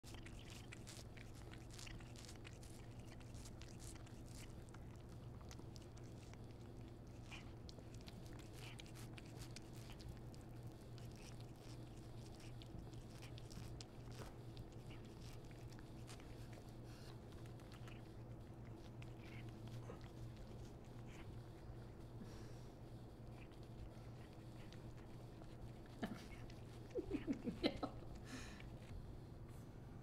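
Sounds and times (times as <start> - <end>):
cat crunching corn: 0.0 - 29.1
steady low hum: 0.0 - 30.0.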